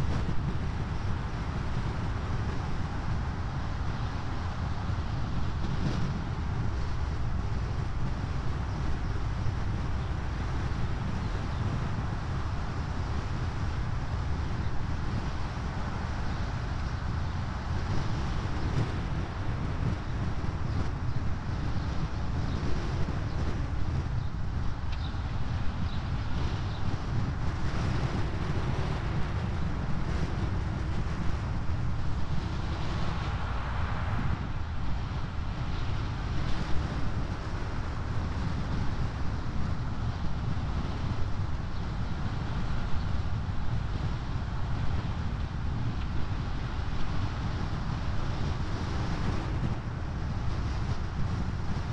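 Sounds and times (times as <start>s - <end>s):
car driving on paved road: 0.0s - 51.9s
wind rumble on microphone: 0.0s - 51.9s.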